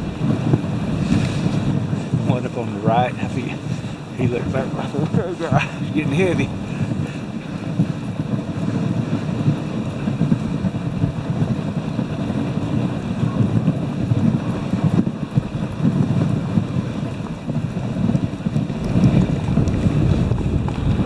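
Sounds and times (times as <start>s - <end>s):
sled runners rumbling on snow: 0.0s - 21.0s
wind buffeting microphone: 0.0s - 21.0s.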